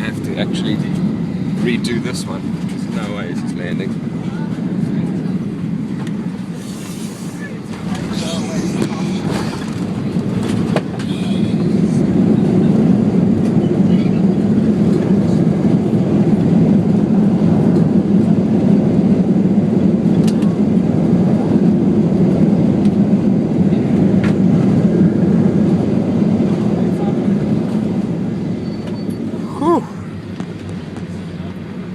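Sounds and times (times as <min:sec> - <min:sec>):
airplane cabin engine rumble: 0:00.0 - 0:31.9.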